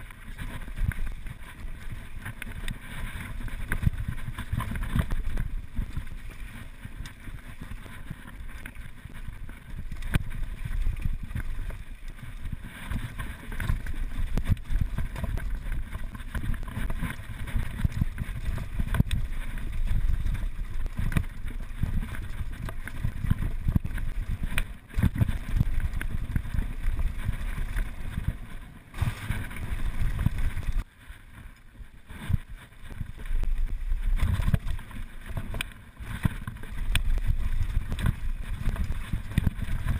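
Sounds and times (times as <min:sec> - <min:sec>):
bike rattling over bumps: 0:00.0 - 0:39.9
wind rushing over microphone: 0:00.0 - 0:39.9.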